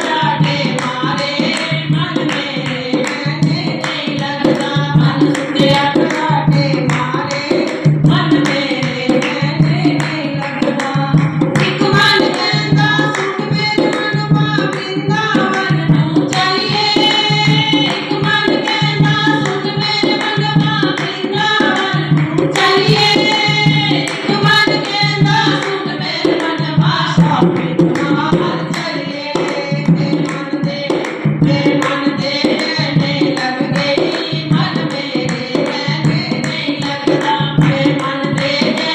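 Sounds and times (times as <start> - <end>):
hand drum beat: 0.0 - 38.9
person singing devotional song: 0.0 - 38.9.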